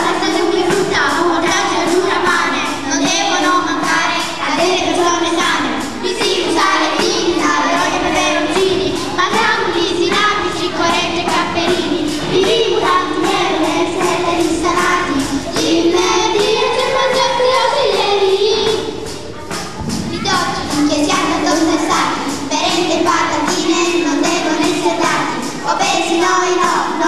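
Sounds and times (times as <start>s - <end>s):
backing music with steady beat: 0.0s - 27.0s
children singing: 0.0s - 27.0s.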